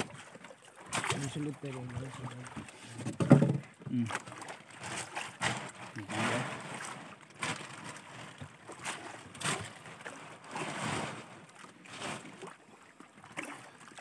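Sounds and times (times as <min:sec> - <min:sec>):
plastic rustling and sloshing: 0:00.0 - 0:14.0.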